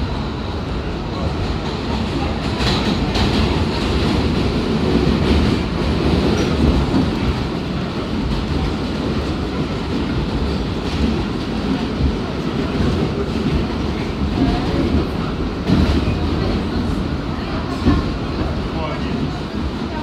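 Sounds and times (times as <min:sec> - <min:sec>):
train wheels rumbling on rails: 0:00.0 - 0:20.0
clickety-clack of rail joints: 0:00.8 - 0:20.0.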